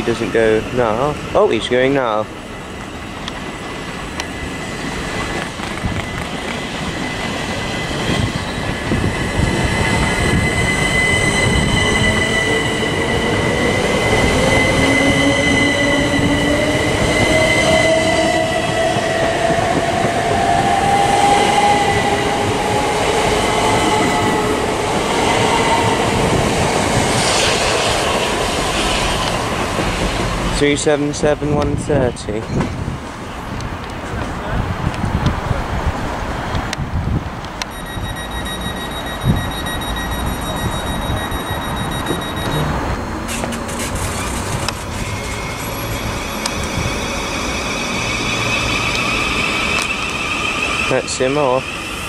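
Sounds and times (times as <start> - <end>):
train wheels on track: 0.0 - 52.0.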